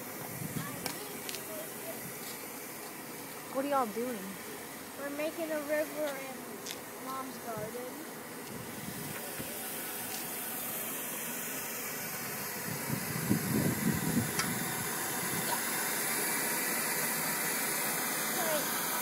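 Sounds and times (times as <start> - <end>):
water running from a hose: 0.0 - 19.0.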